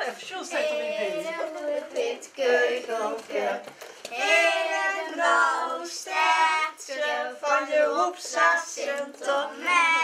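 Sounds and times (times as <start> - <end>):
children singing in unison: 0.5 - 10.0.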